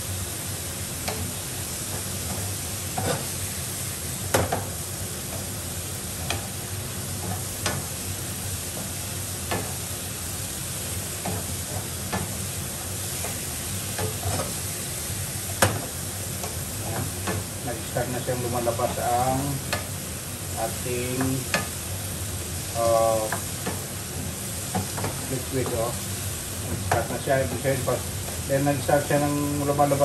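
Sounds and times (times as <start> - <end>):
mushrooms sizzling in pan: 0.0 - 30.0.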